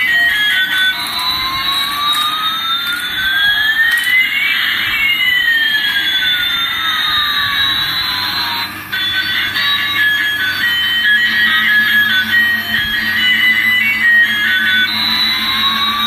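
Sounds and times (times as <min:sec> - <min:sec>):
electronic jet engine effect: 0:00.0 - 0:16.0.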